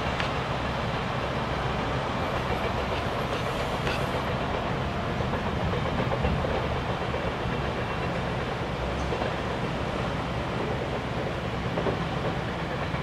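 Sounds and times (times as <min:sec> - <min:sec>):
electric train wheels on rail: 0:00.0 - 0:13.0.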